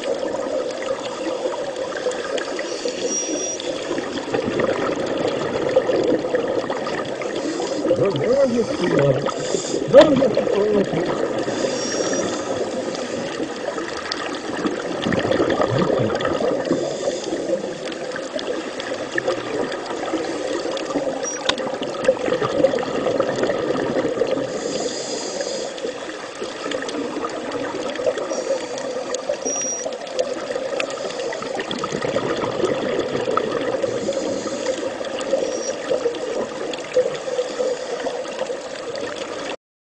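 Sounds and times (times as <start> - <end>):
water rushing and trickling: 0.0 - 39.6.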